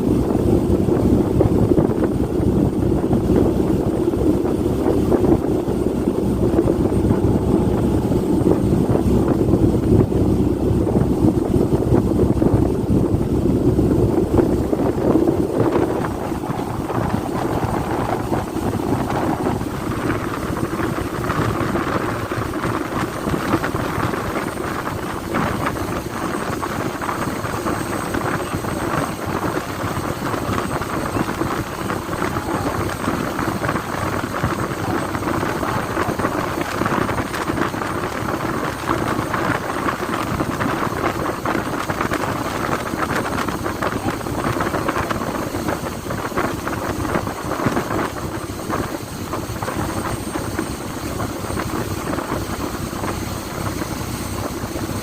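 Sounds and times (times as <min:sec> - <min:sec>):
boat engine droning: 0:00.0 - 0:55.0
wind buffeting microphone: 0:00.0 - 0:55.0.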